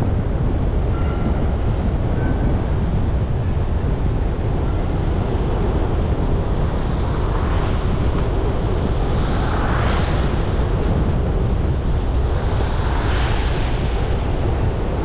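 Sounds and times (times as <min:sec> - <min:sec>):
road noise rumble: 0:00.0 - 0:15.0.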